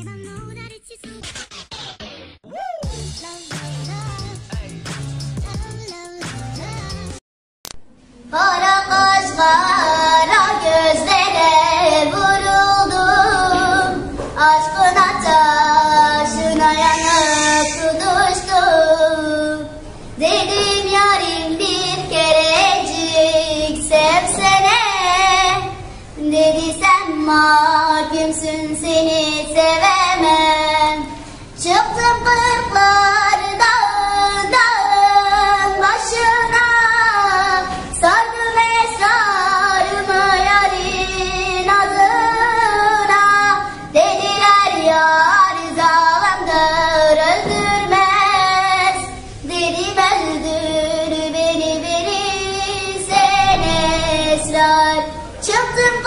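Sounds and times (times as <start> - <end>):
girl singing unaccompanied: 2.6 - 7.2, 8.2 - 56.0.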